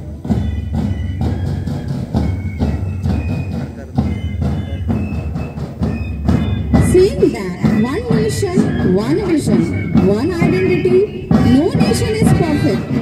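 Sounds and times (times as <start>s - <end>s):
drums beating steady rhythm: 0.0s - 13.0s.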